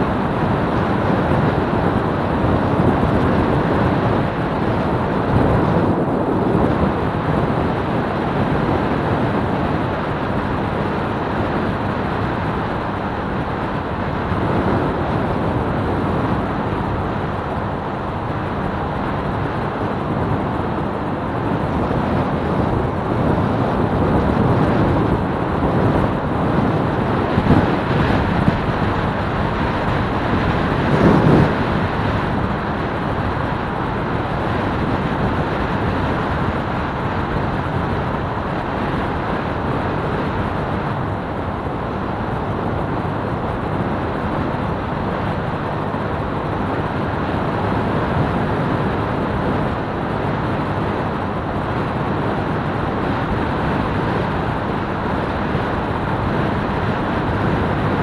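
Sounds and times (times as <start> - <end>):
motorcycle riding with wind noise: 0.0 - 58.0.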